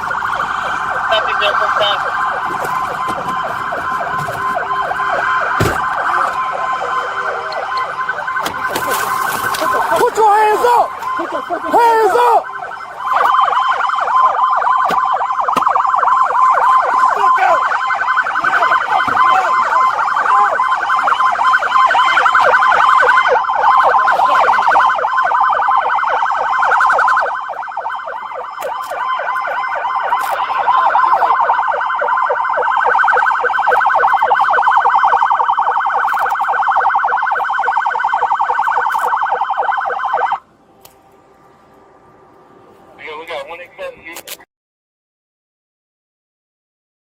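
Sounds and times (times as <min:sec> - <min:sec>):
police siren yelping: 0:00.0 - 0:40.5.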